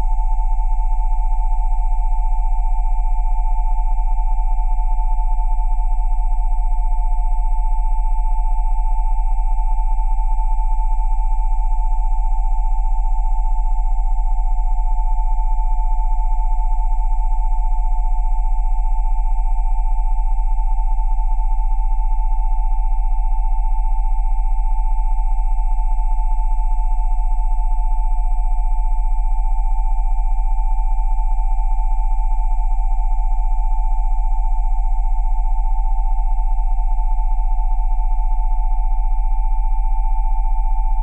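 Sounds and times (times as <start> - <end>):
pulsing electronic sine drone: 0.0 - 41.0.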